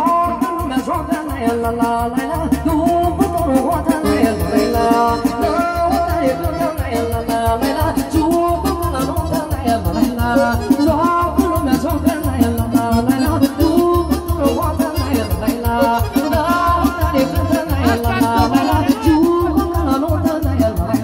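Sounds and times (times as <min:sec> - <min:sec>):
party music with fast beat: 0:00.0 - 0:21.0
woman singing into microphone: 0:00.0 - 0:21.0.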